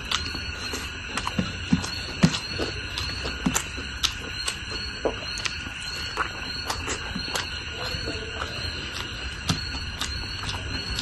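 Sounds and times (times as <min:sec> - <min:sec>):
chewing and crunching salad: 0:00.0 - 0:11.0.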